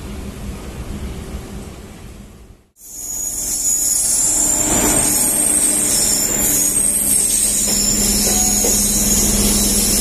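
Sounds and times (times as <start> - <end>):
trains passing on adjacent tracks: 0.0 - 10.0.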